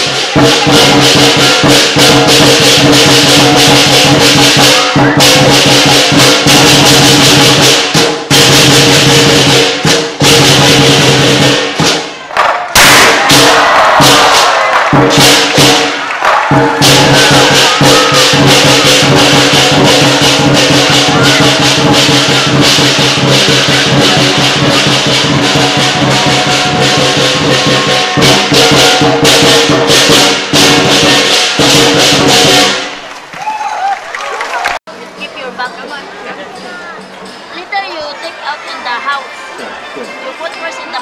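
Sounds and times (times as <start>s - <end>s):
cymbals clashing: 0.0s - 33.0s
drum beating fast: 0.0s - 33.0s.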